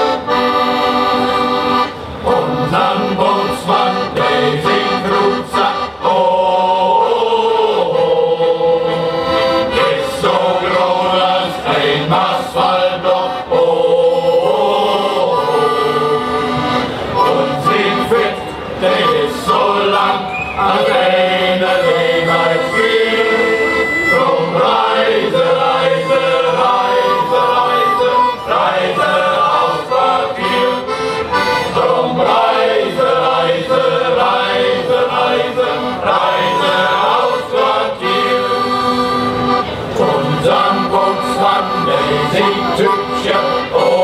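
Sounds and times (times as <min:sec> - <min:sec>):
accordion: 0:00.0 - 0:44.0
men's choir singing: 0:02.2 - 0:39.2, 0:39.9 - 0:44.0.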